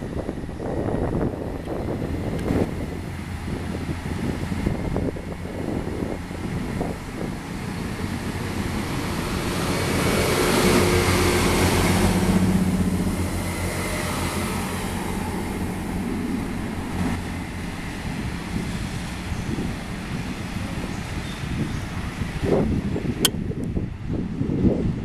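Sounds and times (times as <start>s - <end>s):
diesel train passing: 0.0s - 25.0s.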